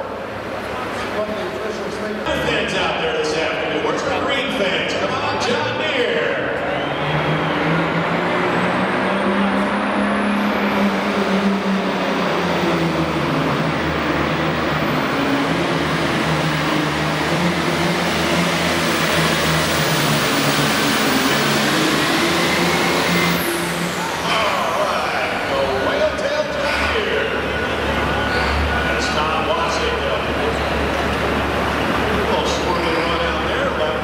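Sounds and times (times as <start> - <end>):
tractor diesel engine drone: 0.0 - 34.0.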